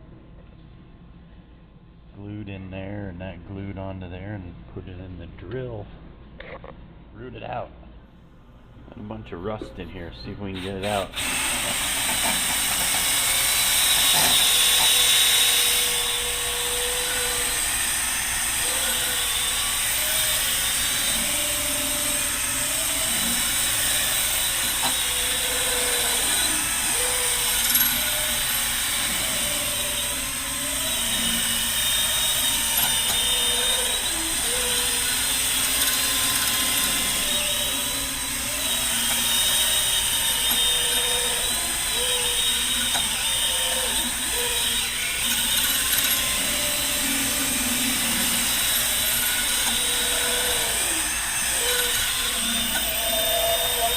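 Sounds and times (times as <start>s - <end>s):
electric drill spinning: 10.6s - 53.9s.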